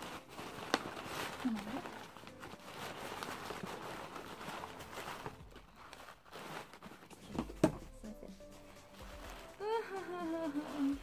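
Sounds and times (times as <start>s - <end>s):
packaging rustling and crinkling: 0.0s - 7.9s, 8.8s - 11.0s.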